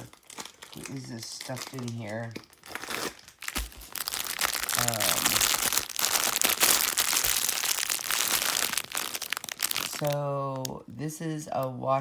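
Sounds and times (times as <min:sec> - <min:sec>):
crinkly packaging rustling: 0:00.0 - 0:11.7.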